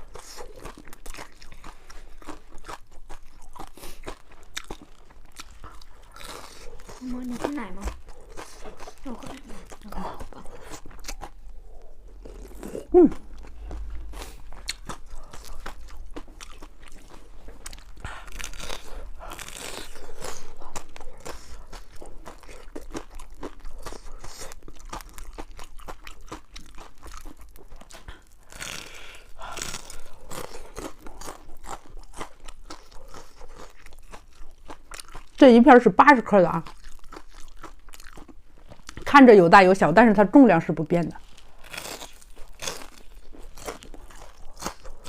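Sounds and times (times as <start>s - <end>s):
crunching fried food: 0.0s - 35.4s, 36.2s - 39.1s, 41.1s - 45.0s.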